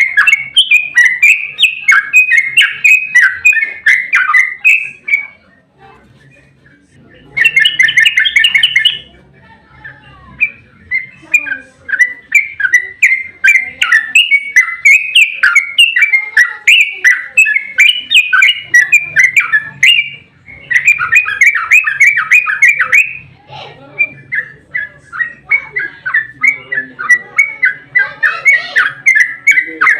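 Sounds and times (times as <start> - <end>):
fast chattering trill: 0.0 - 5.6, 7.2 - 29.9
bulbul singing warbled notes: 0.0 - 5.7, 7.2 - 29.9.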